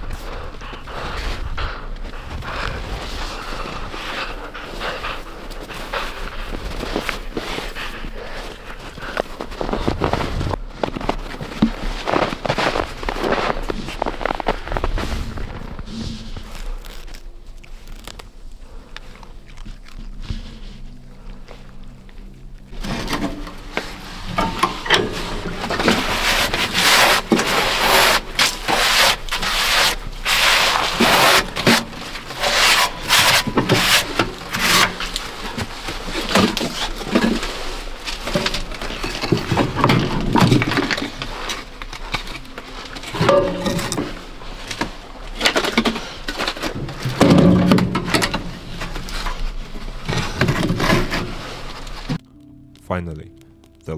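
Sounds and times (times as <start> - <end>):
firewood clattering and rustling: 0.0 - 52.2
wood scraping: 0.0 - 52.2.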